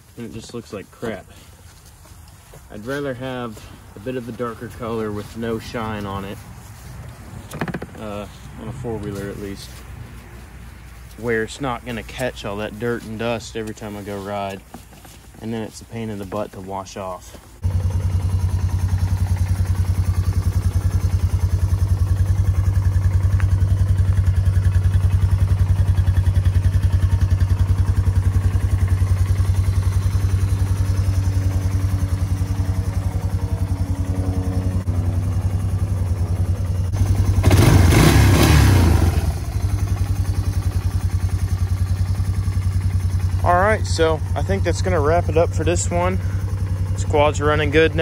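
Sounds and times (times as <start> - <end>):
atv engine idling and revving: 0.0 - 48.0.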